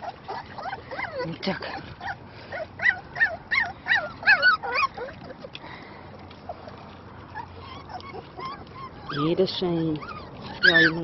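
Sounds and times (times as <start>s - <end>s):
puppies whining and yelping: 0.0s - 11.0s.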